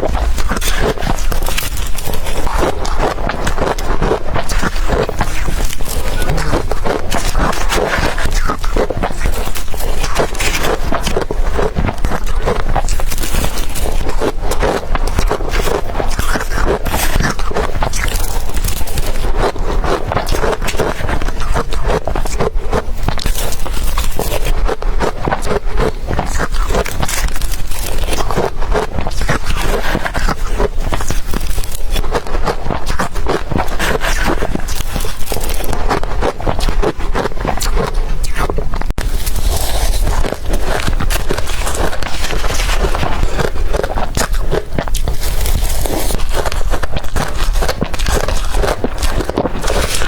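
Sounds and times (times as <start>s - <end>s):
crunching ice being chewed: 0.0s - 50.0s.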